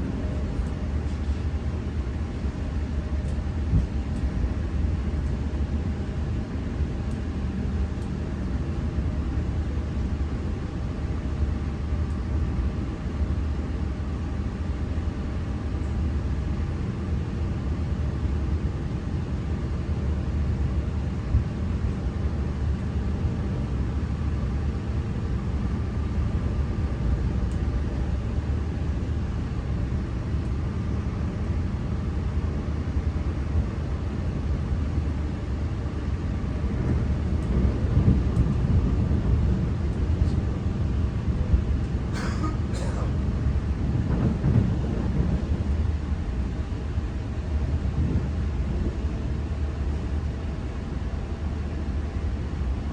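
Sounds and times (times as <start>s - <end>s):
electric train rumbling: 0.0s - 52.9s.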